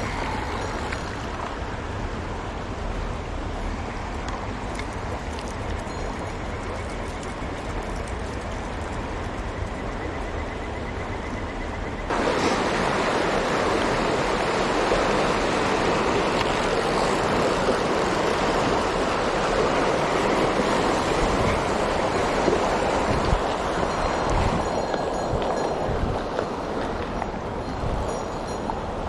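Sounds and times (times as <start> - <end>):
stream water rushing: 0.0 - 9.7, 12.1 - 29.0.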